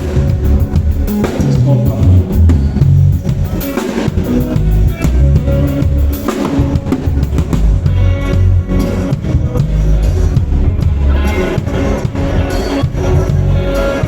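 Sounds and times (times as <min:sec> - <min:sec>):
bass drum and snare: 0:00.0 - 0:13.6
live band playing loudly: 0:00.0 - 0:14.0.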